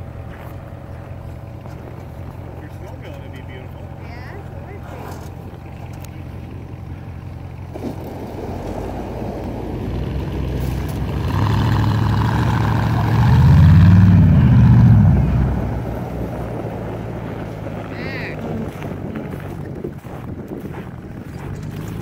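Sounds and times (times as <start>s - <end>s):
engine revving: 0.0s - 22.0s
tractor and pickup engines: 0.0s - 22.0s.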